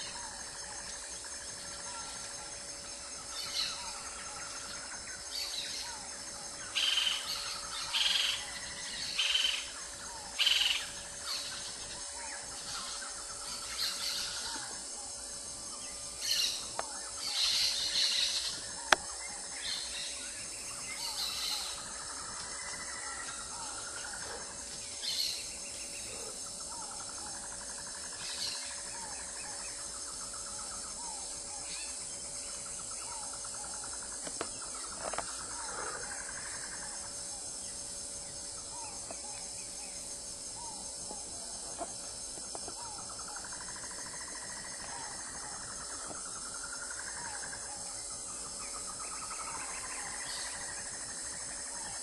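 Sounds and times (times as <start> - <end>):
insect chorus: 0.0 - 52.0.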